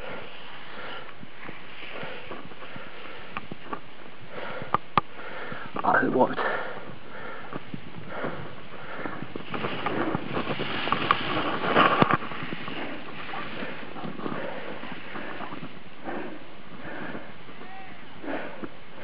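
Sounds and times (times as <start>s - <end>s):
skis scraping over snow: 0.0s - 19.0s
wind on microphone: 0.0s - 19.0s.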